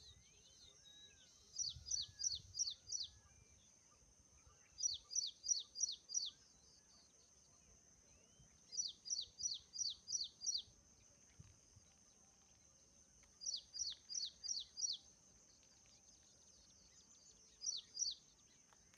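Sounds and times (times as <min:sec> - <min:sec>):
songbird chirping: 0:00.0 - 0:18.9.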